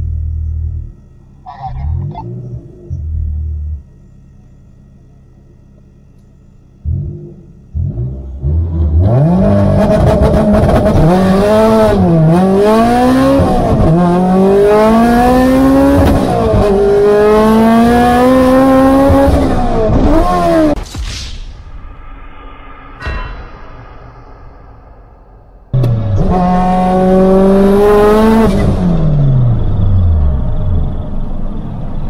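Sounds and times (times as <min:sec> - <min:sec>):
car engine at full throttle: 0:00.0 - 0:20.8, 0:25.7 - 0:32.0.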